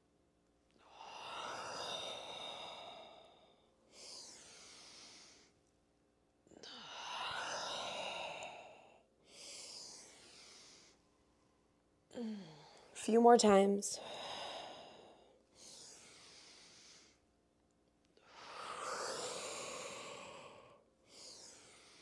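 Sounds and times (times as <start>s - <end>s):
slow deep breathing: 0.8s - 5.7s, 6.5s - 13.0s, 14.0s - 17.4s, 18.2s - 22.0s.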